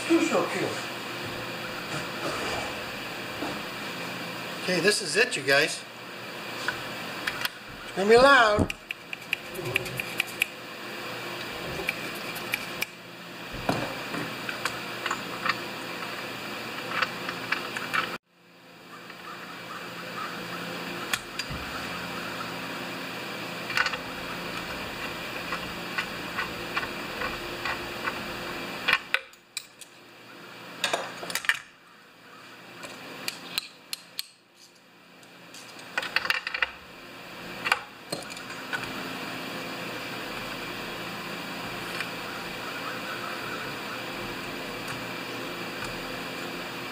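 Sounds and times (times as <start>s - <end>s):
steady background hum: 0.0s - 46.9s.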